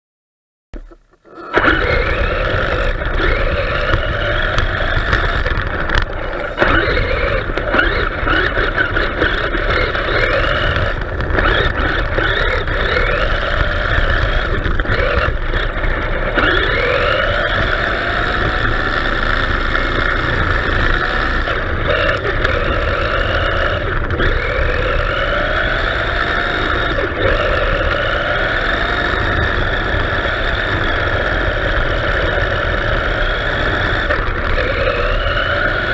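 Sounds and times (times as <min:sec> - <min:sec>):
toy car electric motor whining: 0:00.8 - 0:35.9
tyres rumbling on rough road: 0:00.8 - 0:35.9.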